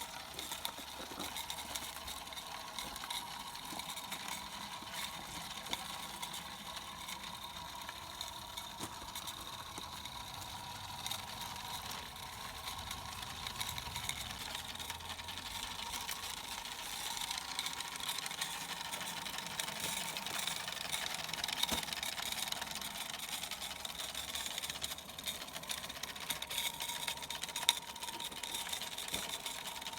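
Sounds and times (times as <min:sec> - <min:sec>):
steam locomotive hissing and ticking: 0:00.0 - 0:29.9.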